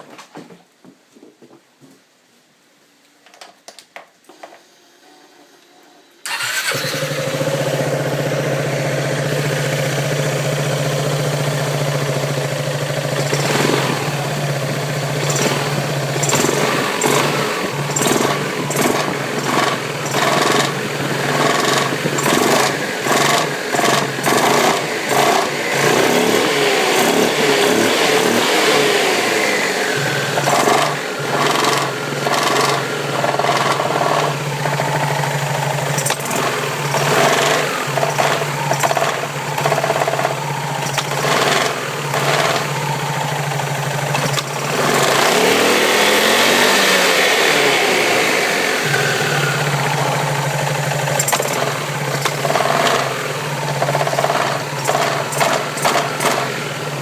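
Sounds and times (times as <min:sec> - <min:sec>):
scooter engine revving: 0:06.2 - 0:57.0.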